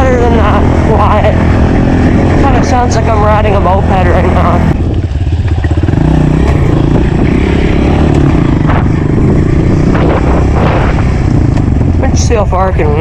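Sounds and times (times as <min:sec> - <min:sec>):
small motorbike engine revving: 0:00.0 - 0:12.1.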